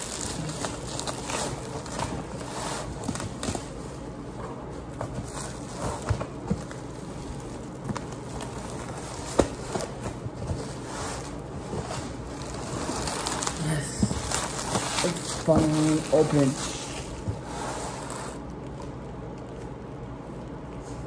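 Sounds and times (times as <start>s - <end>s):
plastic wrap crinkling: 0.0s - 21.0s
hands handling cardboard box: 0.2s - 18.4s.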